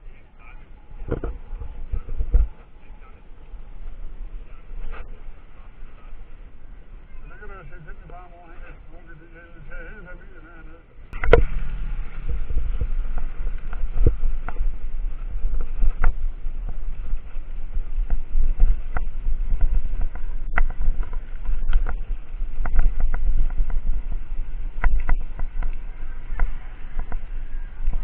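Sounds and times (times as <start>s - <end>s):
wind and road rumble: 0.0s - 28.0s.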